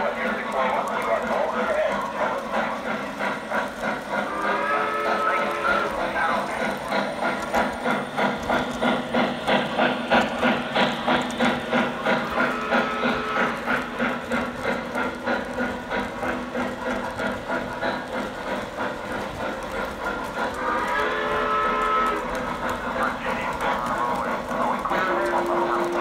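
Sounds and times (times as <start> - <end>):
model steam locomotive chuffing: 0.0 - 26.0
model train rolling on track: 0.0 - 26.0.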